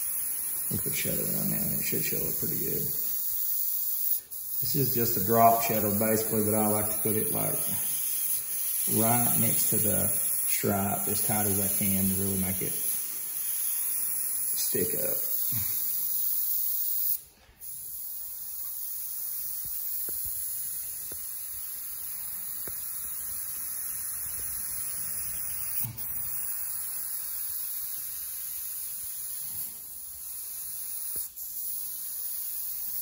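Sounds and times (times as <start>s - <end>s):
airbrush spraying hiss: 0.0s - 33.0s.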